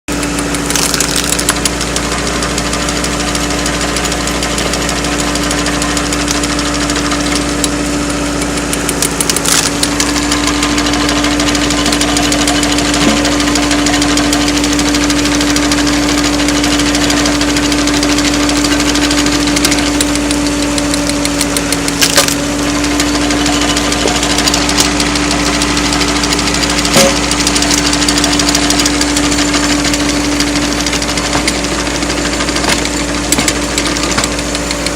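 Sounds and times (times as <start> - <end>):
machine engine running: 0.1 - 34.9.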